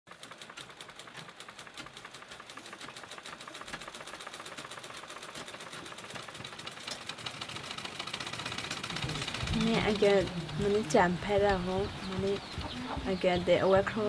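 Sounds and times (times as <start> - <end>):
sewing machine running: 0.1 - 14.0.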